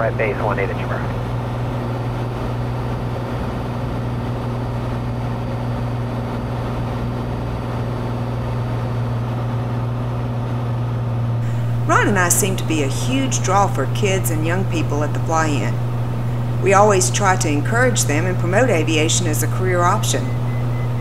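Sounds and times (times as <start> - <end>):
airplane engine droning in flight: 0.0 - 21.0.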